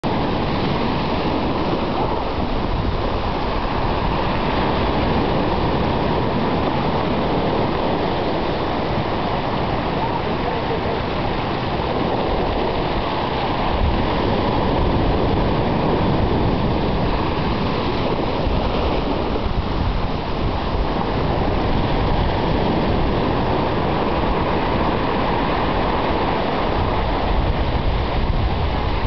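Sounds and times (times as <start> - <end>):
ocean surf washing over rocks: 0.0 - 29.0.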